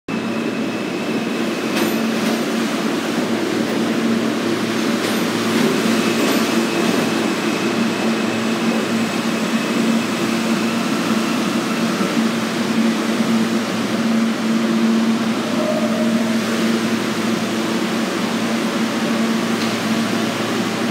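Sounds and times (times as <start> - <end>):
subway train wheels rumbling: 0.1 - 20.9.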